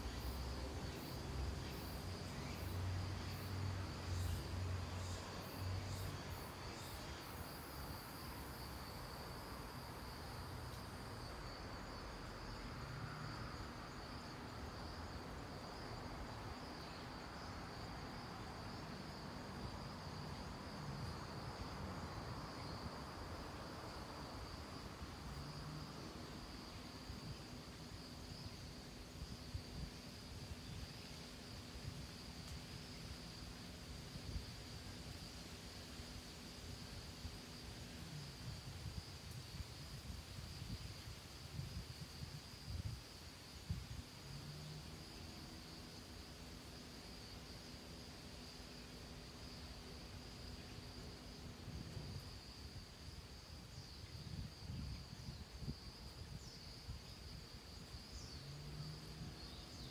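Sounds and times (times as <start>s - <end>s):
high-pitched insect trill: 0.0s - 59.9s
wind rustling leaves: 0.0s - 59.9s.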